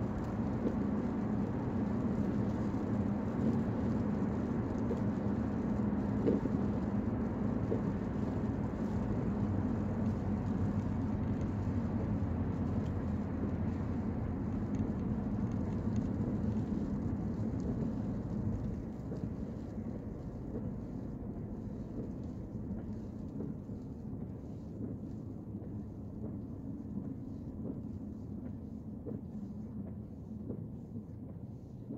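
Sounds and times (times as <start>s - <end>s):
car road and engine rumble: 0.0s - 31.9s.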